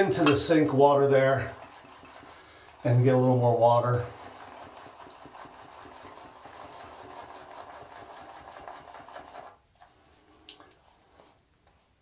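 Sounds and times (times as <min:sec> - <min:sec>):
shaving brush swishing in bowl: 0:00.0 - 0:10.2.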